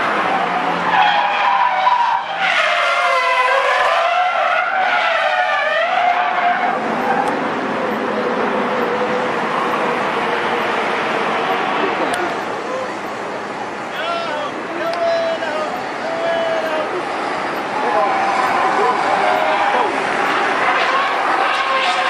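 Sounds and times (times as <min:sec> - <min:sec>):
tyres screeching: 0:00.0 - 0:22.0.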